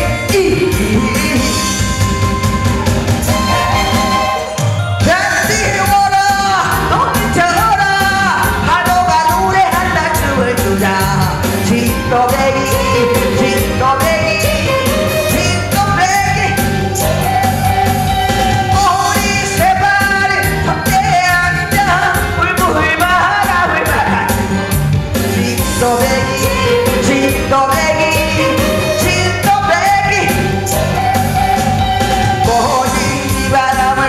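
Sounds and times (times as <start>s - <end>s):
woman singing into a microphone: 0.0s - 2.0s, 5.0s - 22.1s, 25.4s - 34.0s
backing music with a beat: 0.0s - 34.0s.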